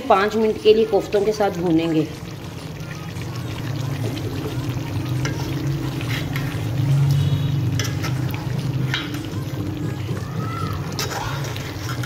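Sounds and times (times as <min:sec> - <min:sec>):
gravy sizzling and bubbling: 0:00.0 - 0:12.0.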